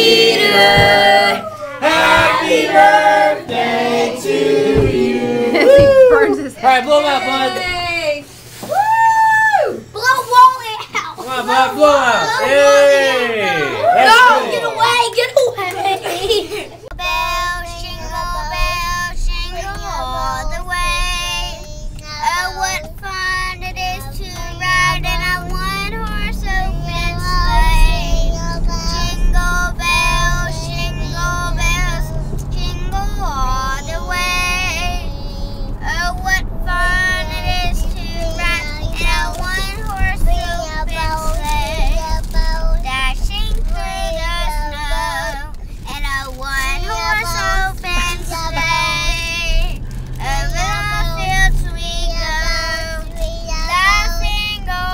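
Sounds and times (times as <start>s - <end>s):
high child-like voice singing: 0.0s - 6.2s, 13.9s - 54.9s.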